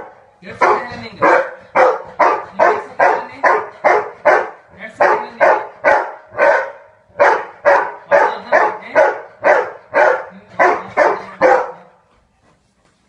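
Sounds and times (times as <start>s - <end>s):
dog barking: 0.0s - 12.0s.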